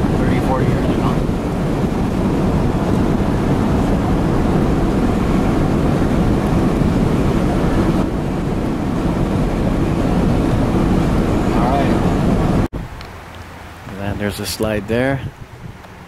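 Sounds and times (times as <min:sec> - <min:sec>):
road and engine noise in car: 0:00.0 - 0:16.0.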